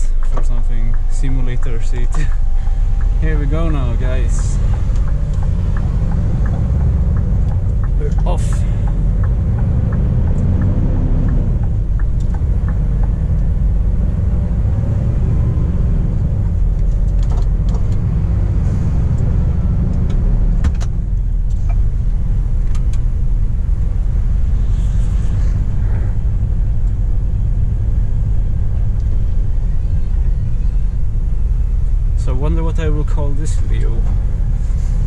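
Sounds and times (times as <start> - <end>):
truck diesel engine droning: 0.0 - 35.0.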